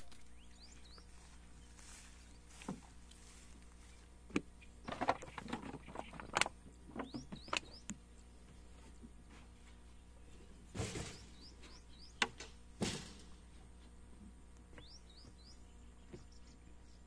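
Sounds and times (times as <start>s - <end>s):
small birds chirping: 0.0s - 12.6s, 14.0s - 17.0s.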